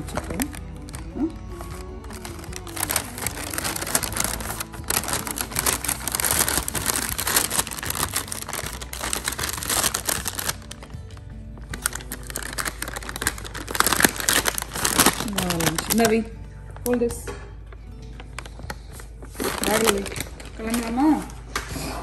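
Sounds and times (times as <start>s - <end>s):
sandwich wrapping crinkling: 0.0s - 16.8s, 17.9s - 21.7s
background music: 0.0s - 22.0s.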